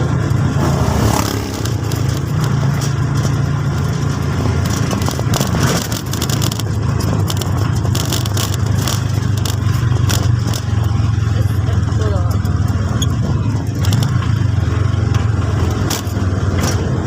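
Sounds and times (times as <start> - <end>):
crackling noise: 0.0 - 17.0
vehicle engine running: 0.0 - 17.0.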